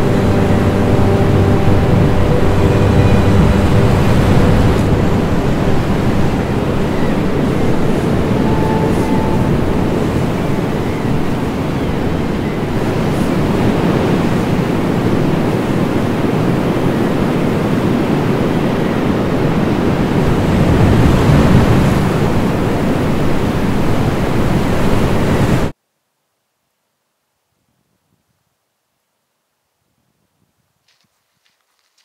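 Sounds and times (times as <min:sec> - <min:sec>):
surf breaking on a beach: 0:00.0 - 0:25.7
wind on microphone: 0:00.0 - 0:25.7.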